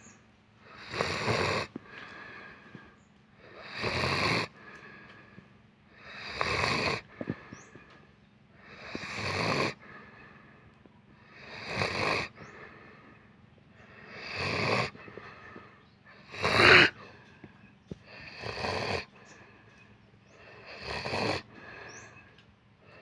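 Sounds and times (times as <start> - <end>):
heavy snoring: 0.0 - 8.0, 8.6 - 10.6, 11.2 - 22.3
quiet breathing: 0.0 - 23.0.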